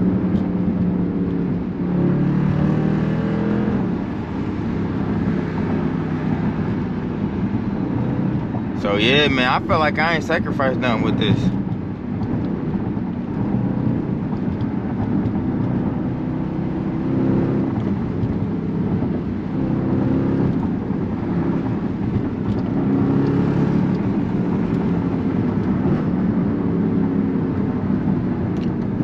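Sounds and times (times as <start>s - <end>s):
car engine exhaust while driving: 0.0s - 29.0s.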